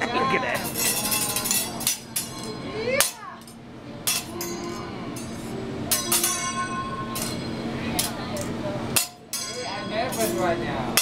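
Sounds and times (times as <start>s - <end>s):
metal spatula clanking on griddle: 0.6s - 11.0s.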